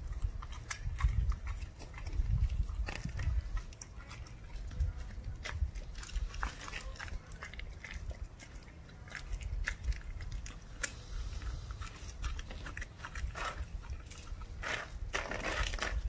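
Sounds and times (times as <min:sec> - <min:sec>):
puppy chewing bone: 0:00.0 - 0:16.0.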